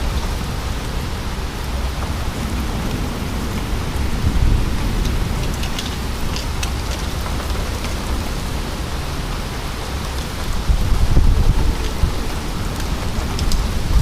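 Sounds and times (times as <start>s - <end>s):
heavy rain falling: 0.0s - 14.0s
low thunder rumble: 0.0s - 14.0s
sharp ticks of raindrops: 0.0s - 14.0s.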